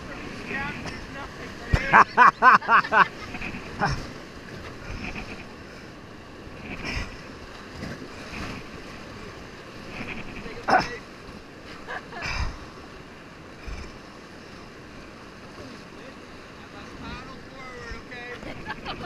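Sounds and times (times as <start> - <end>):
paddle strokes splashing: 0.0 - 19.0
river water rushing: 0.0 - 19.0.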